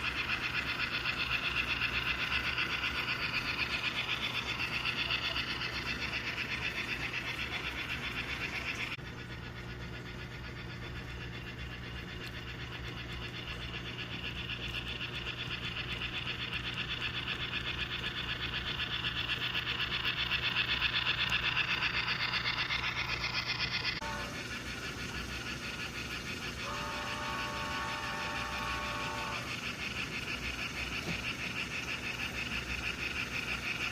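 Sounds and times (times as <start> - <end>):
model steam locomotive chuffing: 0.0 - 33.9
steady low hum: 0.0 - 33.9.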